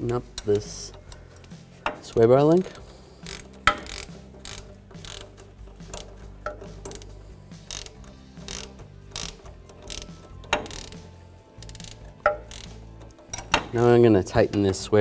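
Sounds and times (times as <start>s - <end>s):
hand ratchet clicking: 0.0s - 13.9s.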